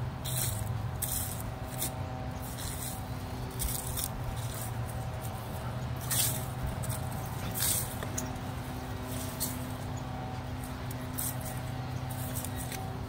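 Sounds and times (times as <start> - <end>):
footsteps crunching dry leaves: 0.0 - 13.0
steady low hum: 0.0 - 13.0.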